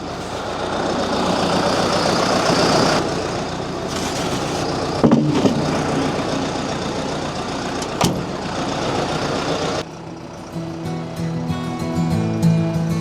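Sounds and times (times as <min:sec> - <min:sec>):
engine knocks: 0:00.0 - 0:11.8
tractor diesel engine running: 0:00.0 - 0:13.0.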